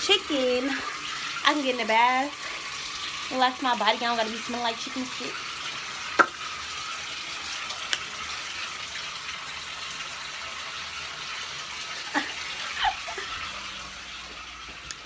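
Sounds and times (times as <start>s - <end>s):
bathtub faucet running: 0.0s - 15.0s.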